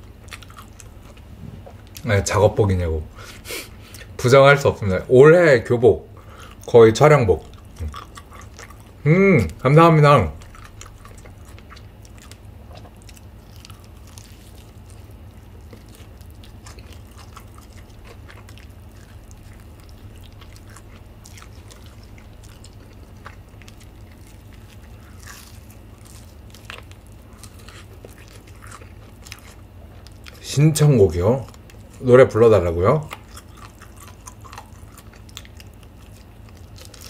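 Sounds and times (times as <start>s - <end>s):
crunchy chewing: 0.0s - 5.5s, 6.2s - 37.0s
steady low hum: 0.0s - 37.0s.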